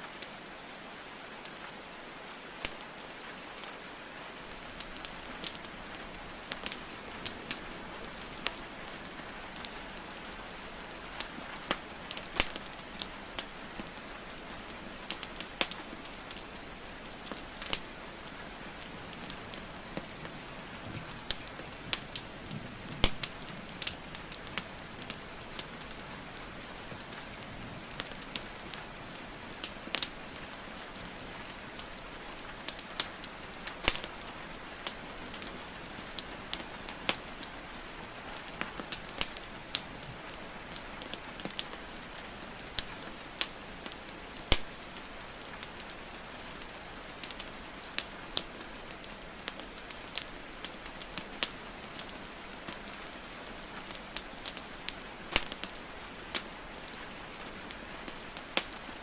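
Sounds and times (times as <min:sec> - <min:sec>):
rain hiss: 0:00.0 - 0:59.0
wood fire crackling: 0:00.1 - 0:59.0.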